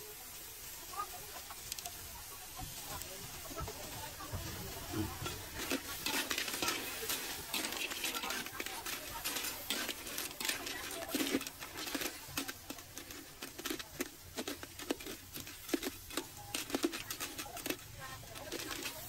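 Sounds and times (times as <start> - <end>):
rustling: 0.9 - 19.0.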